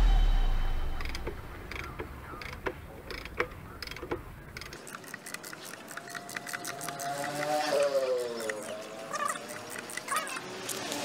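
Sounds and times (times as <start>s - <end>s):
light irregular clicks: 1.0s - 11.0s.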